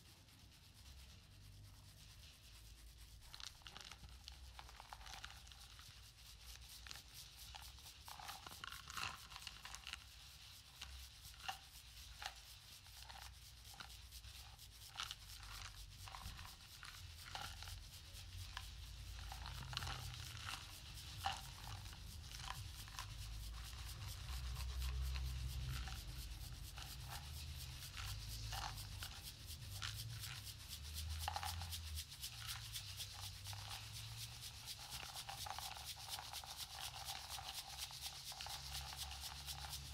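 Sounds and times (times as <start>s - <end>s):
rubbing and shaking percussion: 0.0s - 39.9s.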